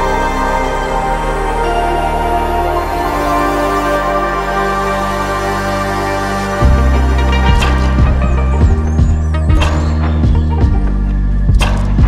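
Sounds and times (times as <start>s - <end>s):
high gliding synth sweeps: 0.0s - 11.6s
synth background music with beat: 0.0s - 12.0s.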